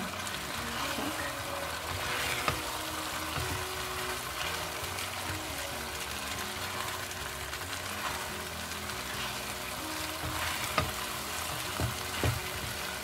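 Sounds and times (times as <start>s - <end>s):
food sizzling in a pan: 0.0s - 13.0s
spatula scraping a pan: 0.3s - 13.0s.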